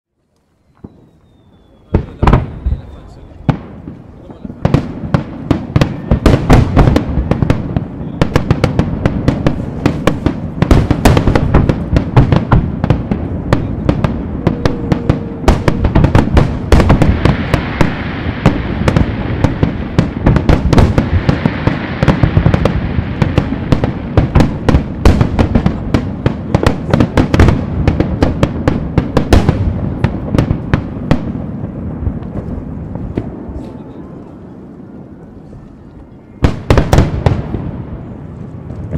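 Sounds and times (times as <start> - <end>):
dense firework crackling: 0.4 - 38.9
firework shells booming: 0.8 - 34.1, 36.3 - 38.9.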